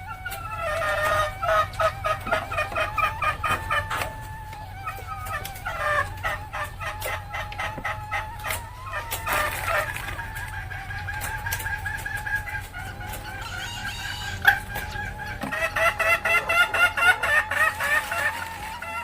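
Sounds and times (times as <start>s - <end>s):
hen cackling: 0.0s - 19.0s
steady wavering tone: 0.0s - 19.0s.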